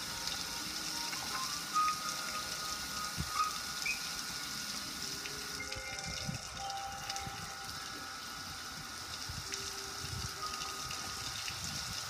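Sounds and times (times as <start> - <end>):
water splattering on grill and paving: 0.0 - 8.0, 8.9 - 12.0.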